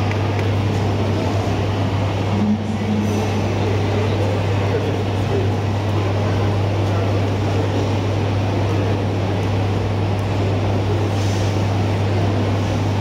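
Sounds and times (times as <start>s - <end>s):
room noise: 0.0s - 13.0s
steady low hum: 0.0s - 13.0s.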